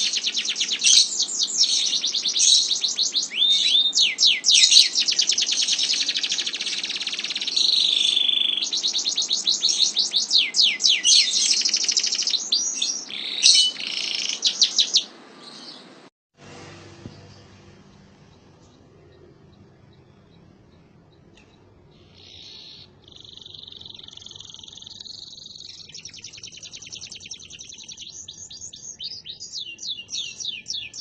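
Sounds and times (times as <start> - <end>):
canary singing: 0.0 - 15.9, 17.0 - 31.0.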